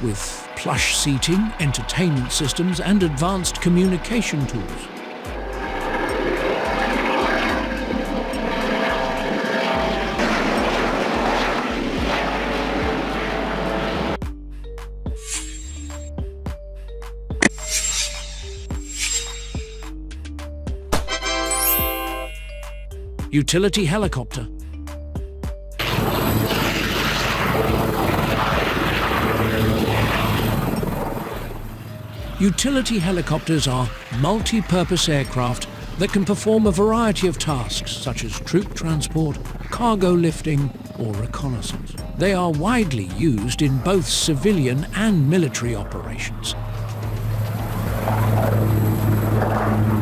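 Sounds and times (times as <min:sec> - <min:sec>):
helicopter flying overhead: 0:00.0 - 0:15.0, 0:24.5 - 0:50.0.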